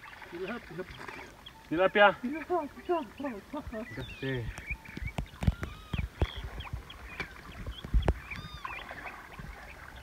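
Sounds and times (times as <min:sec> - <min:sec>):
birds chirping: 0:00.0 - 0:10.0
water sloshing: 0:00.0 - 0:10.0.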